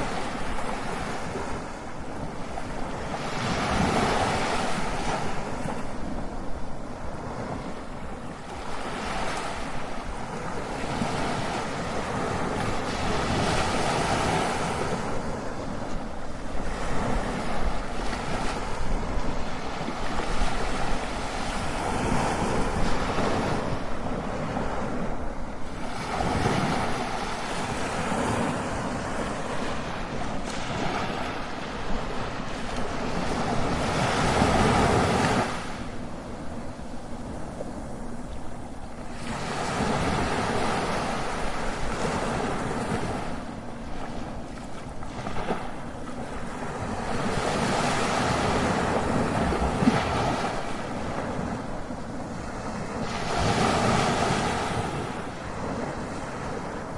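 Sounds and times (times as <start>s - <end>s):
ocean waves breaking: 0.0s - 56.9s.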